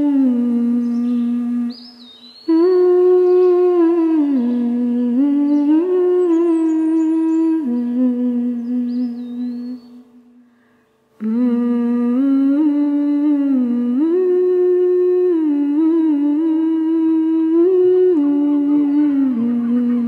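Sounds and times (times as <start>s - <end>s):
person humming: 0.0s - 10.4s, 11.2s - 20.0s.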